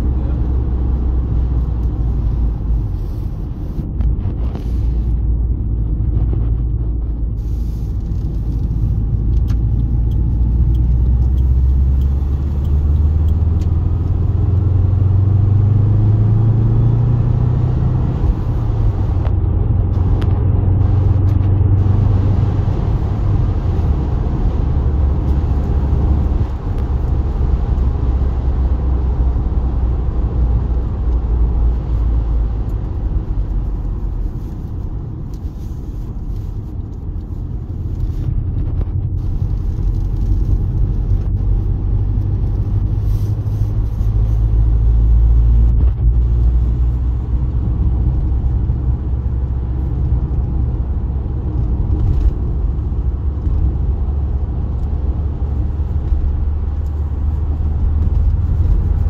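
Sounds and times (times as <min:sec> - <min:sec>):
motor vehicle driving rumble: 0:00.0 - 0:59.0.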